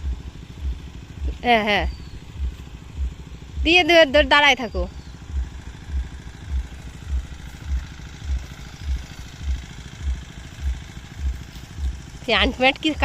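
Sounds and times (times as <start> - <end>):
water pump engine chugging: 0.0 - 13.0.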